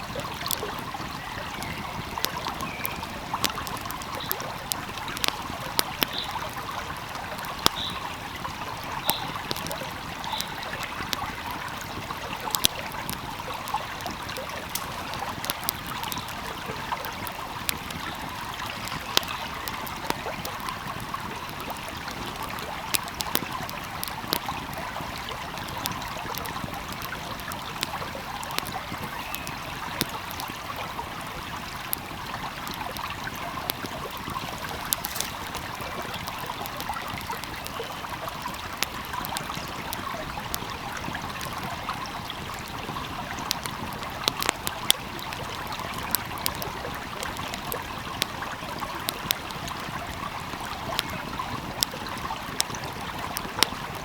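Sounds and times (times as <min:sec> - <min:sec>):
stream babbling: 0:00.0 - 0:54.0
wood fire crackling: 0:00.0 - 0:54.0.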